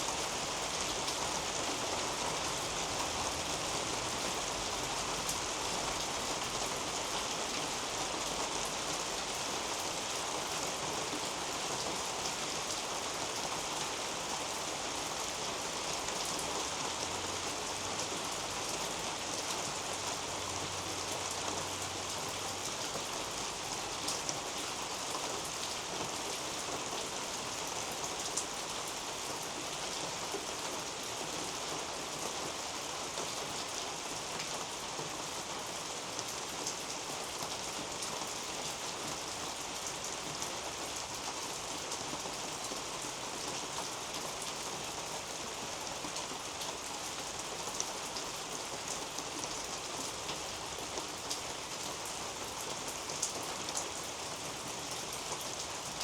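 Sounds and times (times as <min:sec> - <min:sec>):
rain on leaves and roof: 0:00.0 - 0:56.0.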